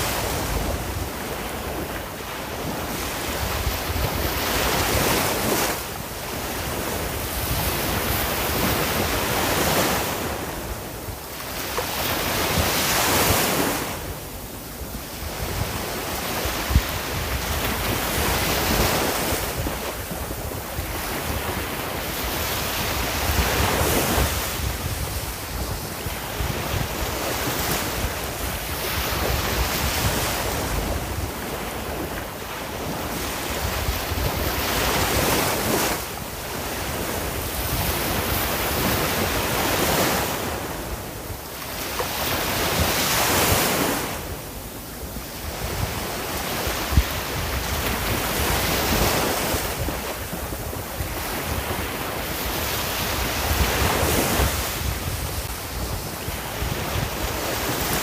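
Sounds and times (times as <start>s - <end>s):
ocean waves breaking on shore: 0.0s - 58.0s
wind noise on microphone: 0.0s - 58.0s.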